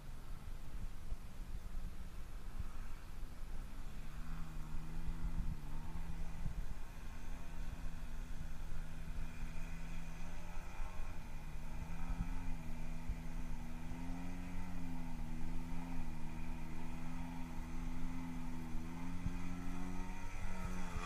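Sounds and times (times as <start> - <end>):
model airplane motor droning: 3.7 - 21.0.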